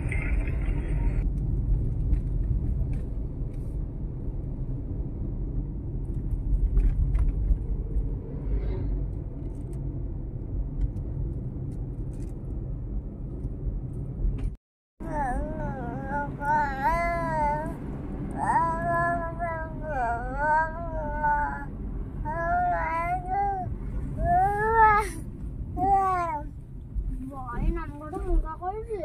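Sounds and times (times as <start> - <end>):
car road and engine rumble: 0.0 - 29.0.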